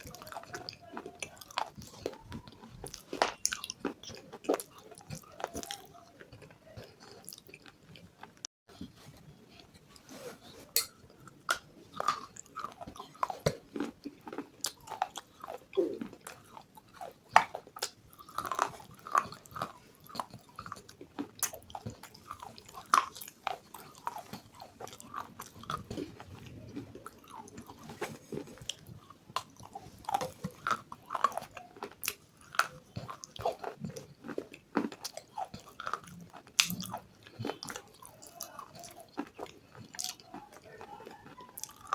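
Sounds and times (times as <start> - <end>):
chewing crunchy food: 0.0 - 41.9.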